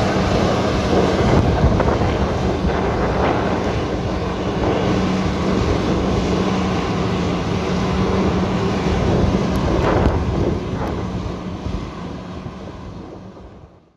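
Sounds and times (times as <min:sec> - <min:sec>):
engine humming: 0:00.0 - 0:13.8.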